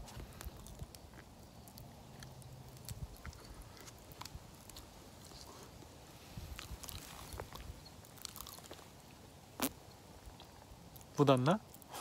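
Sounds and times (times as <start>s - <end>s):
soft chewing: 0.0s - 12.0s.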